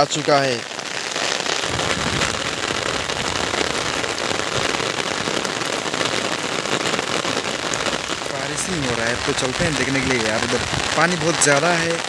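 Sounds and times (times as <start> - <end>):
heavy rain on umbrella: 0.0 - 12.0.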